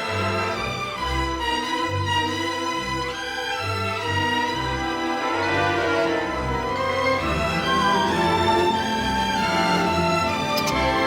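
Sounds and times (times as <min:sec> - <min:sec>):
held orchestral string tones: 0:00.0 - 0:11.0.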